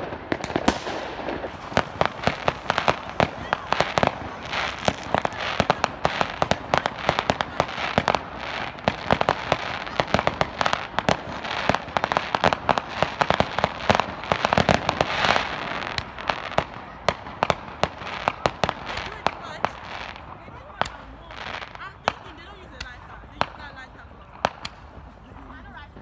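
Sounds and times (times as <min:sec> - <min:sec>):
firecracker pops and bangs: 0:00.0 - 0:26.0
steady crackle: 0:00.0 - 0:26.0.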